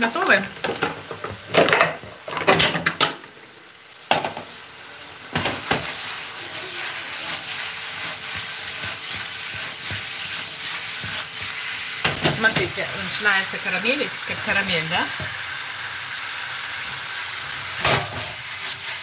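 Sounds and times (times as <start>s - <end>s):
fruit sizzling in a pan: 0.0s - 19.0s.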